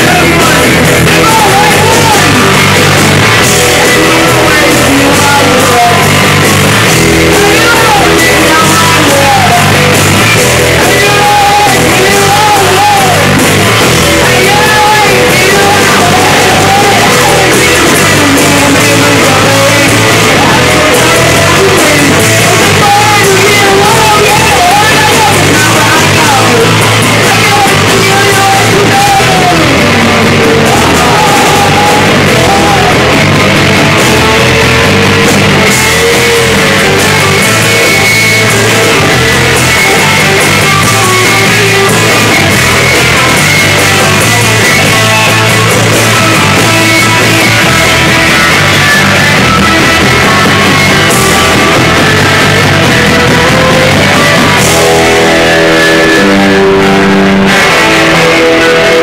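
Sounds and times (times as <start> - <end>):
grunge rock band playing: 0.0 - 59.0
person singing: 0.0 - 59.0.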